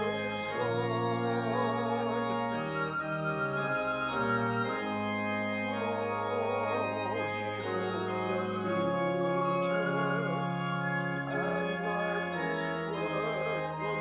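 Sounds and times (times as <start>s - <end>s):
pipe organ playing hymn chords: 0.0s - 14.0s.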